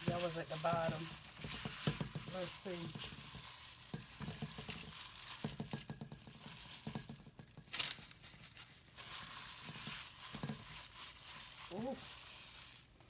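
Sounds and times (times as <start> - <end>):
parchment paper crinkling: 0.0 - 13.0.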